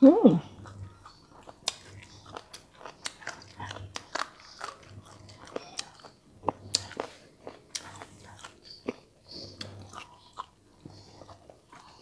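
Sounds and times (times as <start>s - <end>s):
chewing crunchy food: 0.4s - 12.0s.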